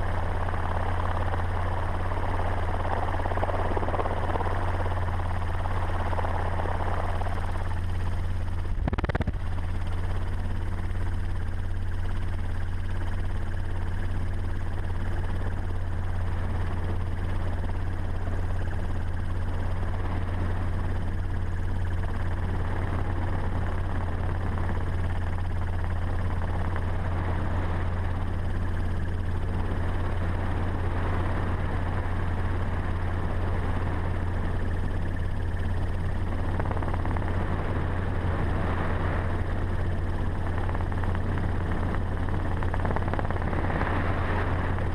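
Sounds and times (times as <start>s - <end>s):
helicopter drone: 0.0s - 44.9s.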